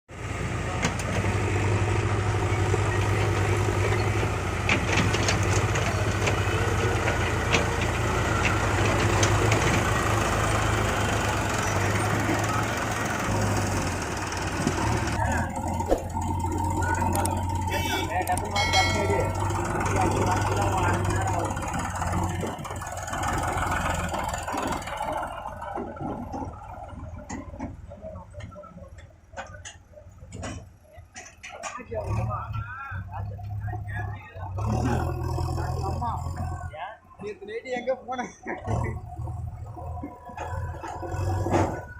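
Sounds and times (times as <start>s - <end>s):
diesel engine humming: 0.1s - 41.9s.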